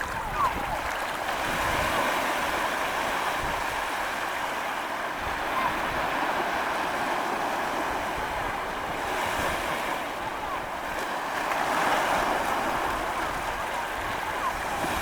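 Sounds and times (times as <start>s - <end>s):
sea waves washing onto beach: 0.0s - 15.0s
wind rumbling on microphone: 0.0s - 15.0s.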